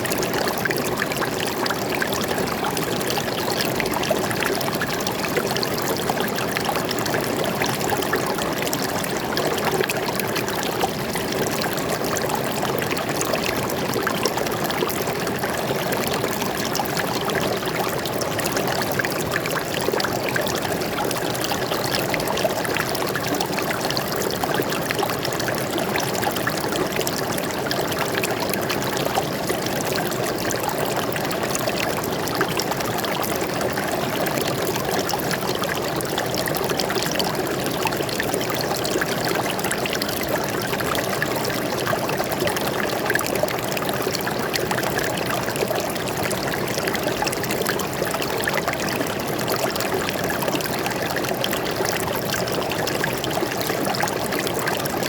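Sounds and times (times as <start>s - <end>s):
water flowing in a stream: 0.0s - 55.0s.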